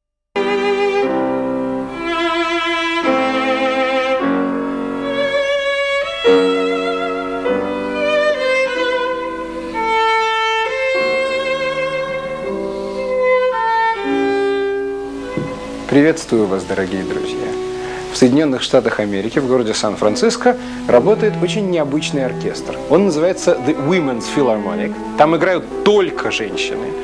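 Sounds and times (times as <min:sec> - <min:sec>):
held chords: 0:00.4 - 0:27.0
violin melody with vibrato: 0:00.4 - 0:27.0.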